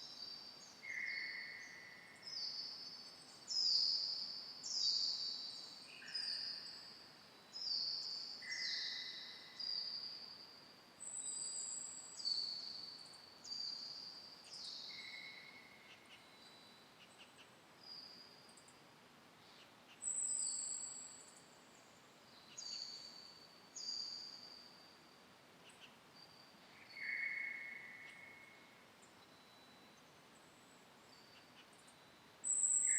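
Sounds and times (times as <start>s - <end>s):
faint background hiss: 0.0s - 32.9s.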